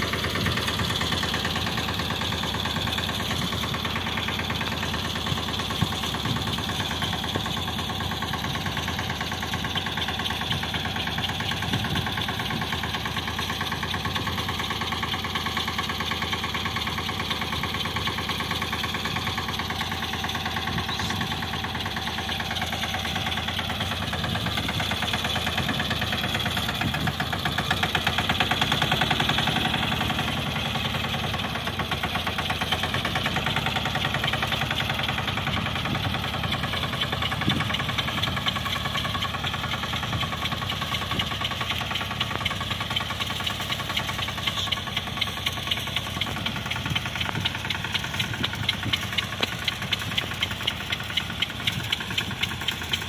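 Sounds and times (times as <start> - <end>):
small diesel tractor engine knocking: 0.0 - 53.0.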